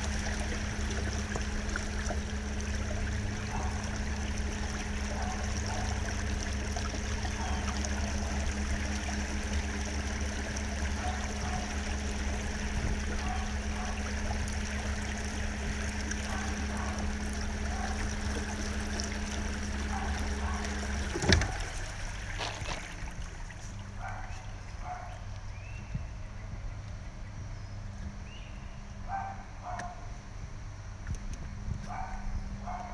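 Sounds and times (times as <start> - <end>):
water noise: 0.0 - 27.4
boat motor humming: 0.0 - 32.9.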